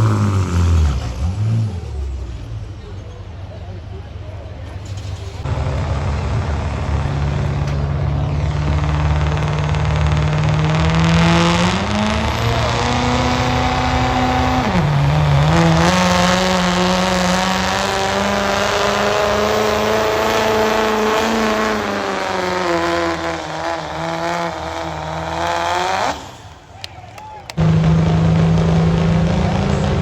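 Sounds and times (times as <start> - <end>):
diesel truck engine under load: 0.0 - 30.0.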